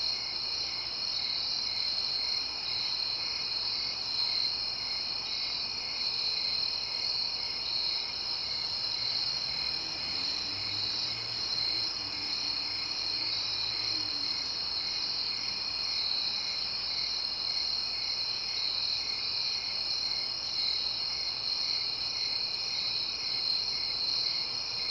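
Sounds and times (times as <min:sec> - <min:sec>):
low insect chirp: 0:00.0 - 0:24.9.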